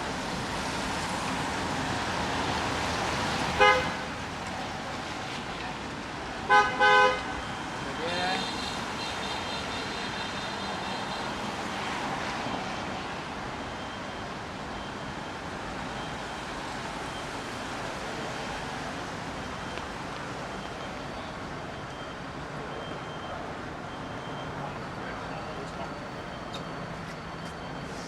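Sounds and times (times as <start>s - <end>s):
street traffic hiss: 0.0s - 22.8s, 23.4s - 28.0s.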